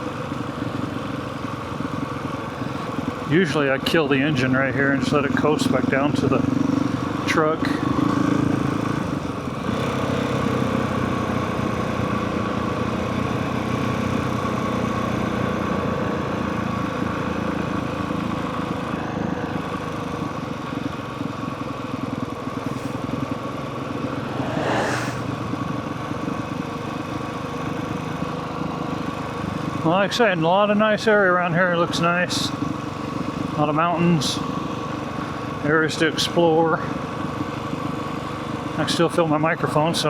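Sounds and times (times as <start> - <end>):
dirt bike engine running: 0.0 - 40.0.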